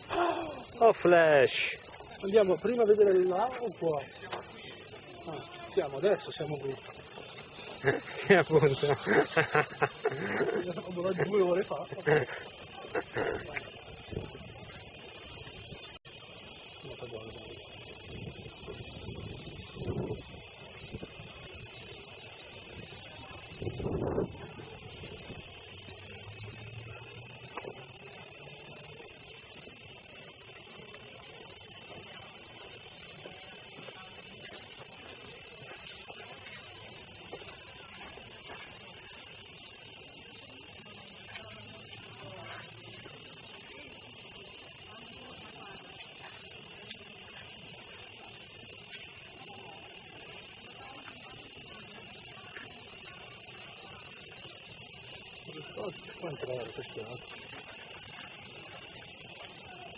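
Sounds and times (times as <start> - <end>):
cicadas droning: 0.0 - 59.9.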